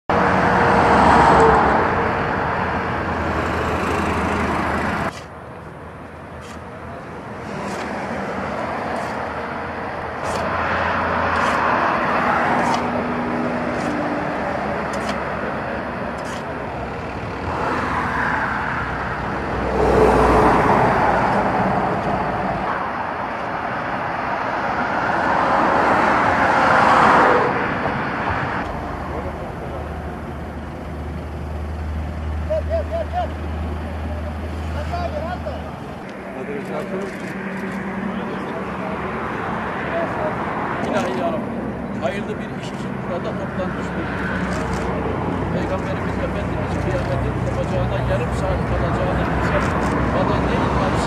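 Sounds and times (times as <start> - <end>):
highway traffic passing: 0.0 - 51.0.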